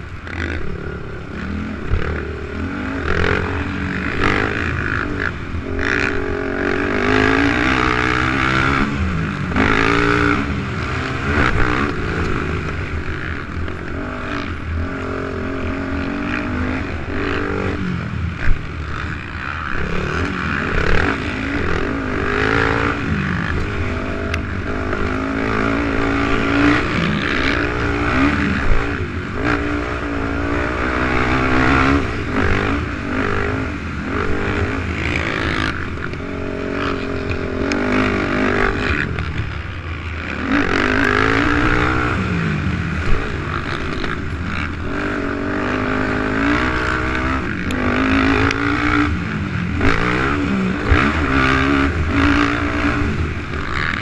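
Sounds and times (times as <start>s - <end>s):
low rumble of wind: 0.0s - 54.0s
quad engine revving: 0.0s - 54.0s.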